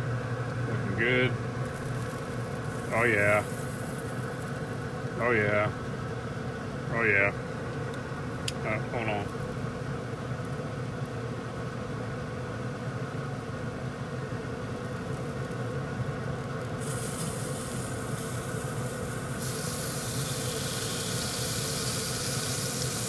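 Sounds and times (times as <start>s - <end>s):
grill hissing: 0.0s - 11.7s, 12.6s - 23.0s
grill fan humming: 0.0s - 23.0s.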